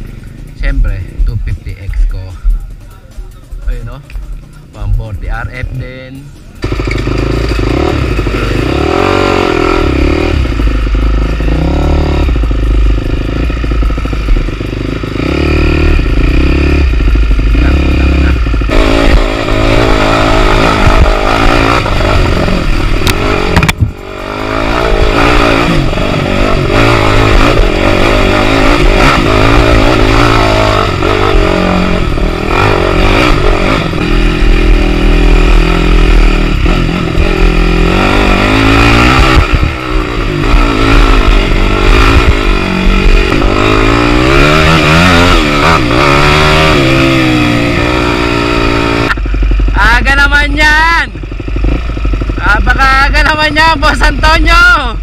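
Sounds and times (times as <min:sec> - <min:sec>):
dirt bike engine revving: 0:03.6 - 0:55.0.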